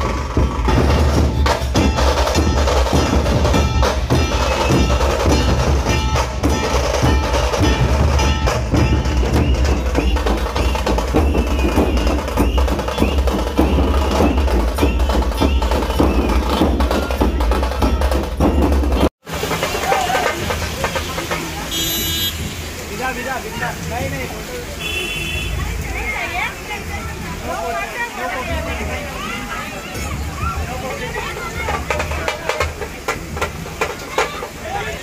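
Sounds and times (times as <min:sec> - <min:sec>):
dhol drums beating: 0:00.0 - 0:24.3, 0:29.9 - 0:35.0.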